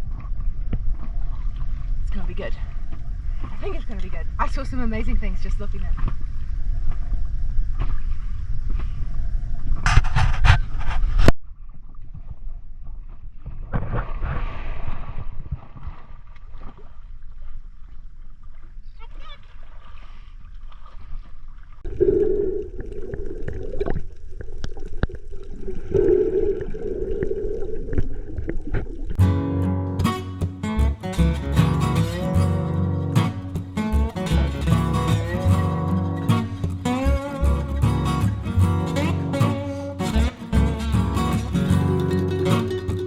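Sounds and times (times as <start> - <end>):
muffled sloshing and gurgling water: 0.0 - 43.0.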